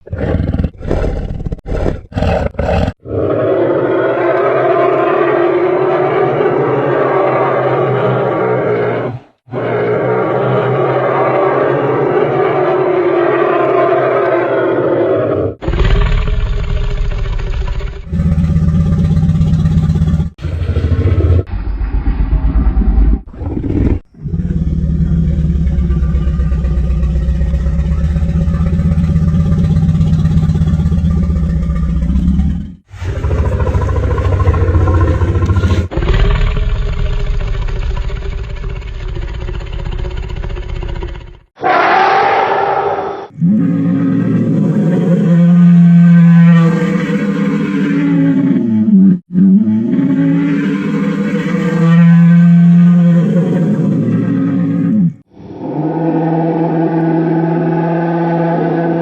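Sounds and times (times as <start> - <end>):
deep rumbling dinosaur roars: 0.0 - 59.0.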